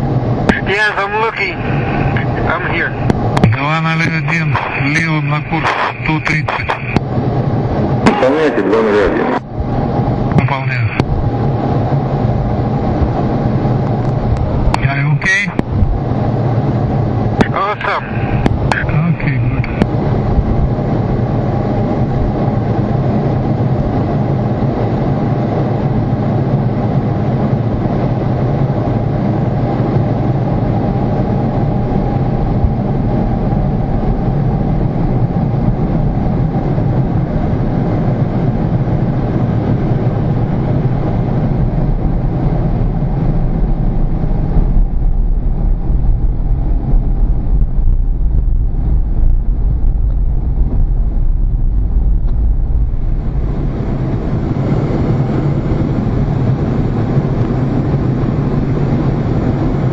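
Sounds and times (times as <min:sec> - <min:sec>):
jet engine roar in cockpit: 0:00.0 - 0:59.9
rushing air: 0:00.0 - 0:59.9.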